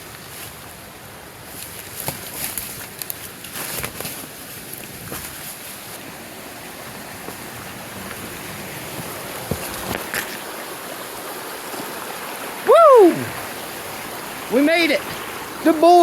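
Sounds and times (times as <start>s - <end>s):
creek running over rocks: 0.0s - 16.0s.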